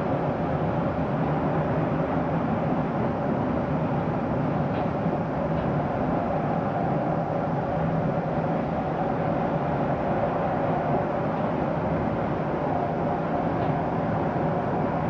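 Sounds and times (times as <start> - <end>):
train carriage rumbling on rails: 0.0 - 15.0.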